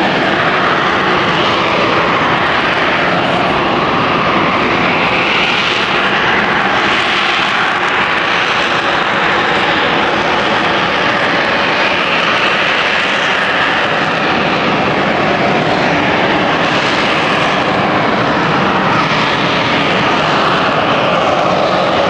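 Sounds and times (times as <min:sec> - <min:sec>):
airplane engines roaring: 0:00.0 - 0:22.0.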